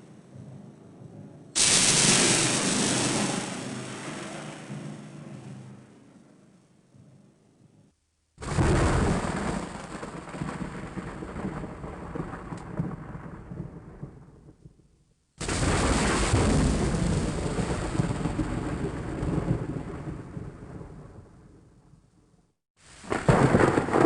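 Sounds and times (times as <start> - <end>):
thunder rumbling: 0.0 - 14.8, 15.4 - 24.0.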